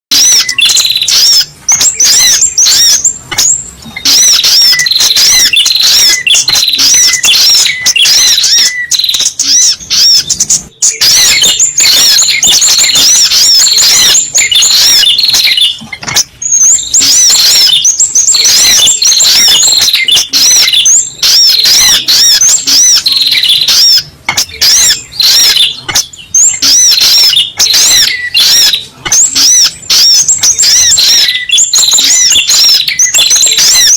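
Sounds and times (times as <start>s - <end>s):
rapid high-pitched bird chirping: 0.1s - 33.9s.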